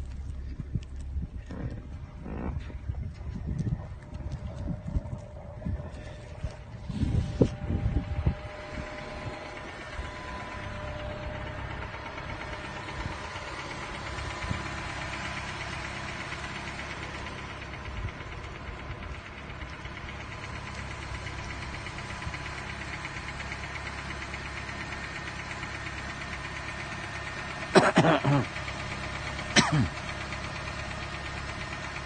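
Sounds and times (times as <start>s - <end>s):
vehicle engine idling: 0.0s - 32.0s.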